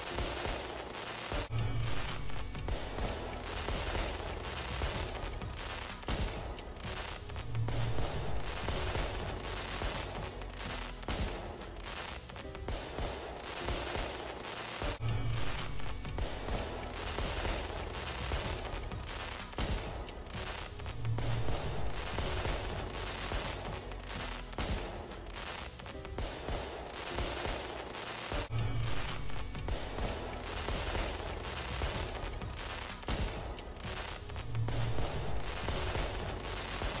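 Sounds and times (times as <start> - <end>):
fireworks bangs and crackle: 0.0 - 37.0.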